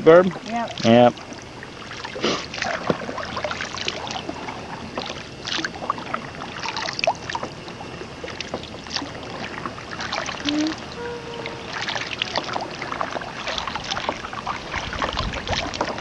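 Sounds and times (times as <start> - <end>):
water splashing around a kayak: 0.0 - 16.0.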